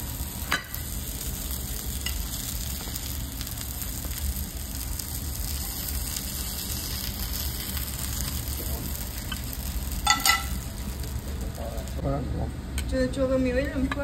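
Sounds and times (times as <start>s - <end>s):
food frying sizzle: 0.0s - 12.1s
low steady hum: 0.0s - 14.0s.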